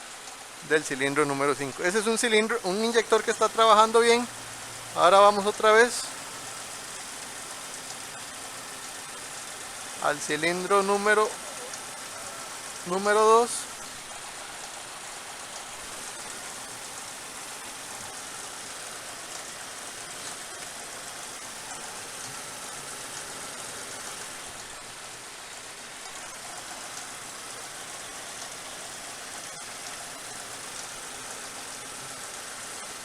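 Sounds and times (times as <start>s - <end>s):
engine running with hissing: 0.0s - 33.0s.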